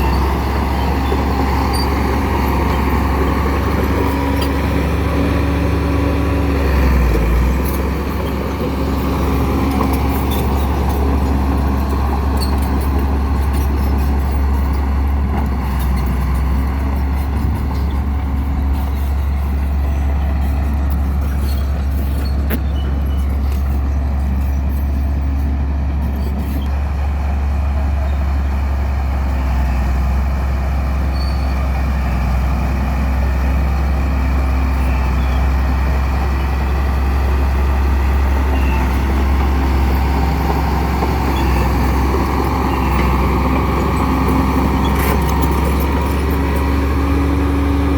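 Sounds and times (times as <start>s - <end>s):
heavy vehicle engine running: 0.0s - 47.9s.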